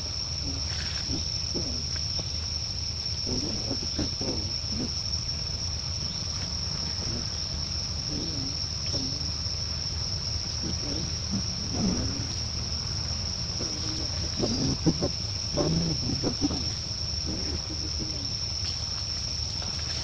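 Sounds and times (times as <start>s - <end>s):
faint low calls: 0.0s - 20.0s
insects droning: 0.0s - 20.0s.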